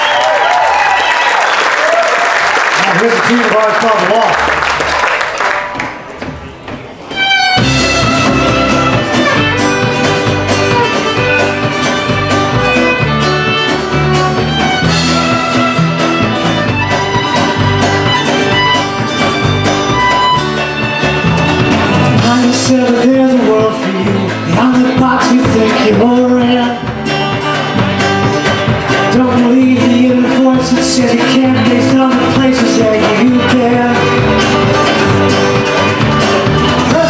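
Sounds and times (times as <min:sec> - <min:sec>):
acoustic guitar: 0:05.7 - 0:37.0
drum kit beat: 0:05.9 - 0:37.0
fiddle: 0:07.0 - 0:37.0
banjo: 0:07.2 - 0:37.0
upright bass: 0:07.2 - 0:37.0.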